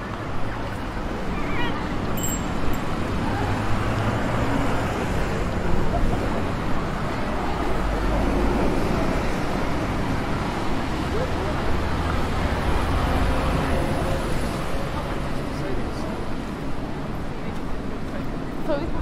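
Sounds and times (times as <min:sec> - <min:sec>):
traffic on wet road: 0:00.0 - 0:19.0.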